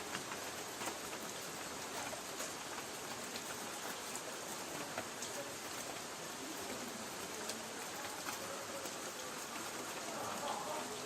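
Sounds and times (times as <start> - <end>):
rain hissing on tin roof: 0.0 - 11.0.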